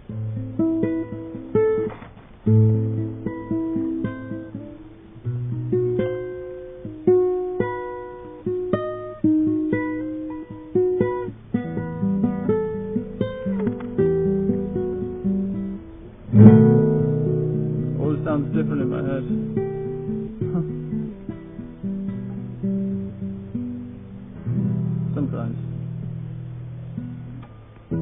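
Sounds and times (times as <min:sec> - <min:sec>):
acoustic guitar plucked: 0:00.0 - 0:28.0
guitar chord strummed: 0:00.0 - 0:28.0.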